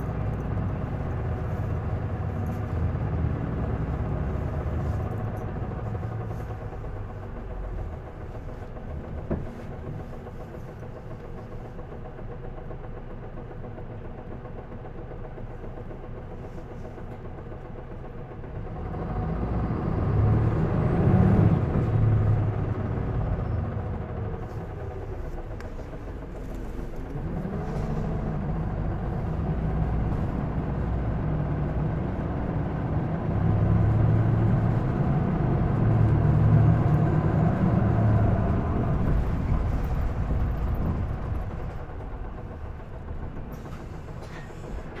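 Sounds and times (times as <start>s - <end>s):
bus diesel engine revving: 0.0s - 11.4s, 18.6s - 45.0s.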